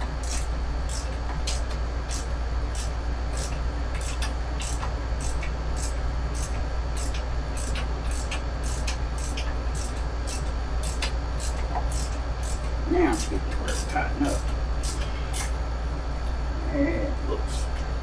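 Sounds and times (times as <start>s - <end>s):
steady low hum: 0.0s - 18.0s
hand ratchet clicking: 0.2s - 15.5s.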